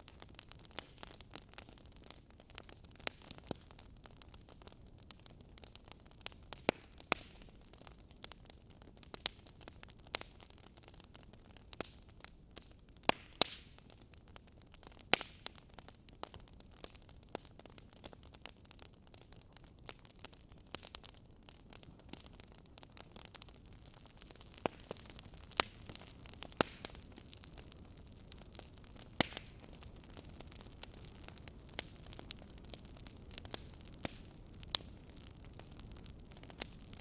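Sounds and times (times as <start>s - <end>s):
faint steady hiss: 0.0s - 37.0s
wood fire crackling: 0.0s - 37.0s.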